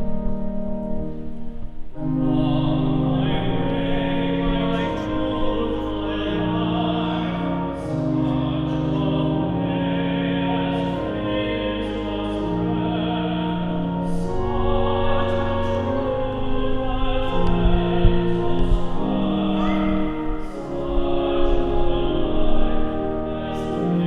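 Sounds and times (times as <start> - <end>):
hymn singing: 0.0 - 24.0
keyboard chords: 0.0 - 24.0.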